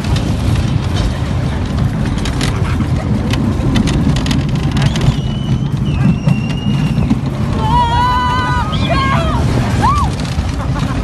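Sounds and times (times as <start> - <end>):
ride car rumbling: 0.0 - 11.0.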